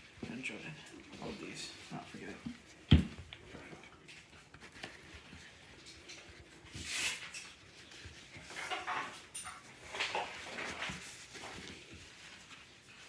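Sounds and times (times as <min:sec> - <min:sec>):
paper towels rustling: 0:00.0 - 0:13.0.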